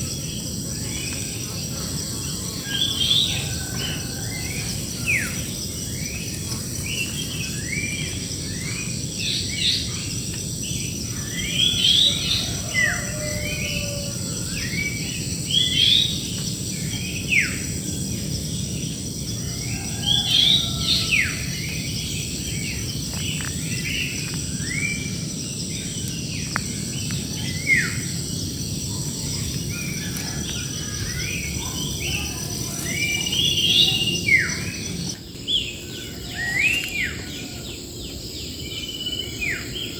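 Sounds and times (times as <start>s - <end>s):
birds singing and calling: 0.0s - 39.9s
insect buzz: 0.0s - 39.9s.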